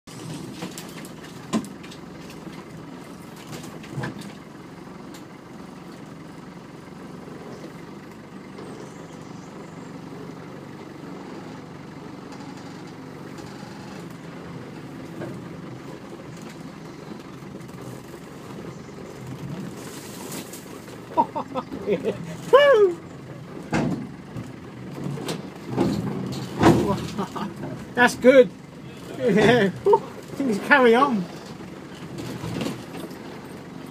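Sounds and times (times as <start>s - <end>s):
engine running low: 0.1s - 33.9s.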